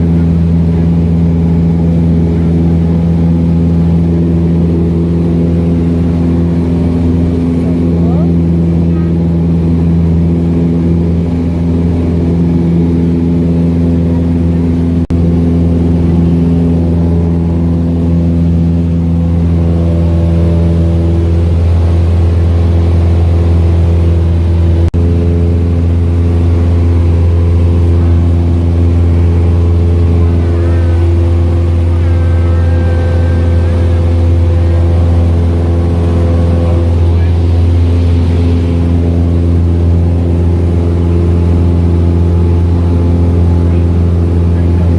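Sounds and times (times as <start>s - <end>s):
airplane engine drone in cabin: 0.0s - 44.9s.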